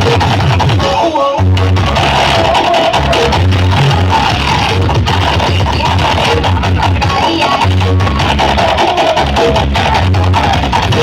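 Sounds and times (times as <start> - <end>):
electronic dance music with heavy bass: 0.0 - 11.0.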